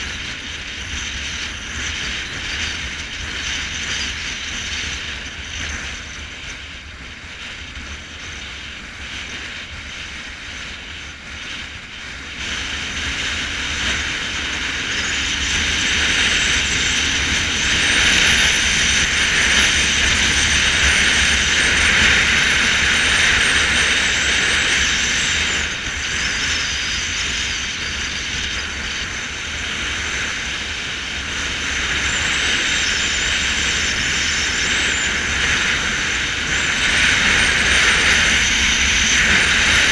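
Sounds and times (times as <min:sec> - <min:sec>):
road noise: 0:00.0 - 0:39.9
rushing wind: 0:00.0 - 0:39.9.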